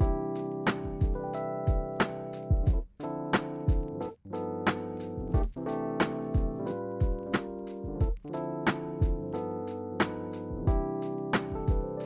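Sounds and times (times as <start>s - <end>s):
drum beat: 0.0s - 4.0s, 4.7s - 9.4s, 10.0s - 12.0s
keyboard chords: 0.0s - 12.0s.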